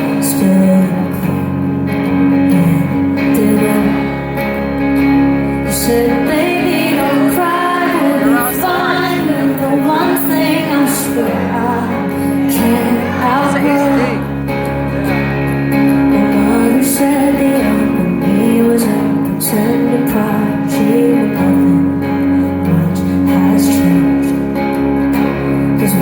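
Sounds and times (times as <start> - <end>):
woman singing: 0.0 - 4.5, 5.6 - 14.4, 16.1 - 24.5, 25.8 - 26.0
instrumental backing music: 0.0 - 26.0.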